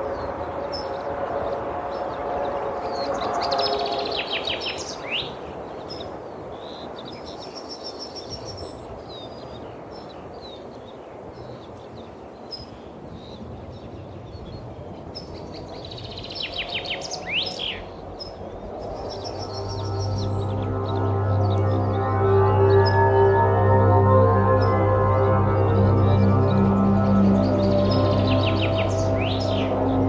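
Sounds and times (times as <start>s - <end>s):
songbirds chirping: 0.0s - 30.0s
steady outdoor hiss: 0.0s - 30.0s.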